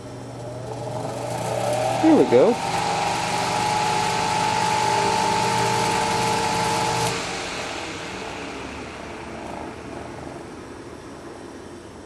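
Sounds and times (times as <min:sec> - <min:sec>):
fan blades whirring: 0:00.0 - 0:12.0
fan motor whine and hum: 0:00.0 - 0:12.0.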